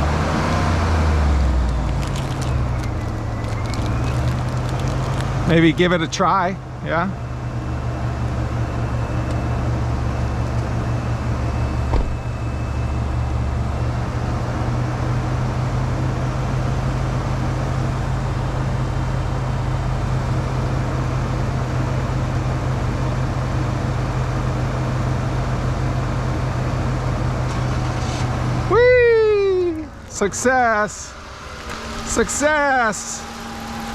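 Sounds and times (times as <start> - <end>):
car engine idling: 1.0 - 33.9.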